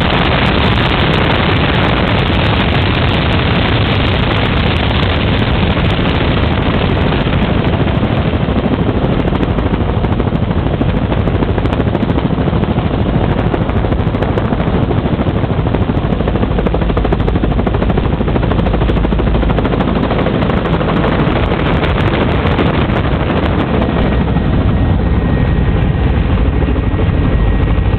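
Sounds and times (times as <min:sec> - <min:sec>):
helicopter rotor and engine: 0:00.0 - 0:27.9.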